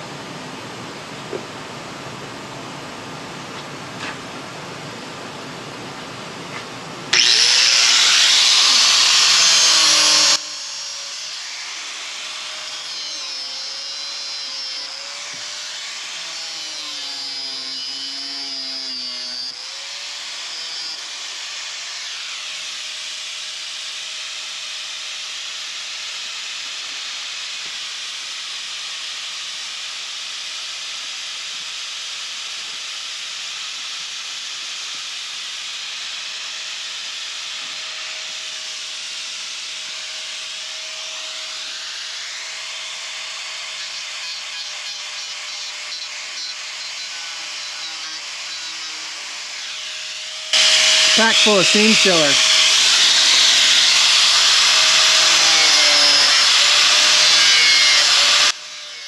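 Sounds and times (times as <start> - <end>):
power tool cutting sheet steel: 7.1 - 59.0.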